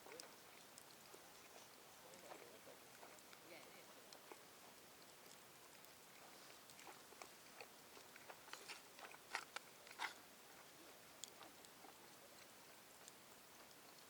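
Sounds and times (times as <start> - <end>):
faint crunchy chewing: 0.0 - 14.0.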